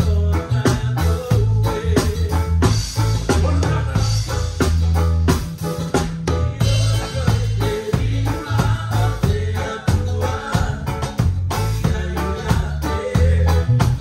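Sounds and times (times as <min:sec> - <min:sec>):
live band playing: 0:00.0 - 0:14.0
steady bass line: 0:00.0 - 0:14.0.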